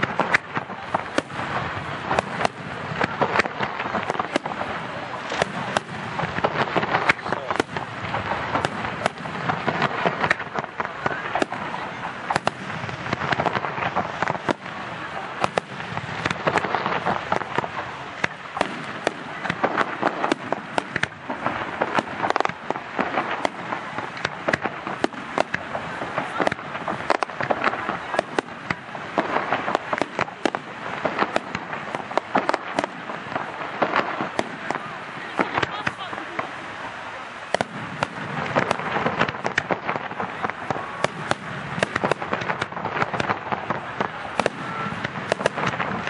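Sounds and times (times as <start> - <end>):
firework shells bursting: 0.0 - 46.0.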